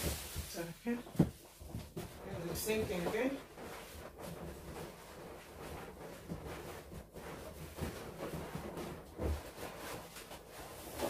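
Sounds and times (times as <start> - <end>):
balloons rubbing: 0.0 - 11.0.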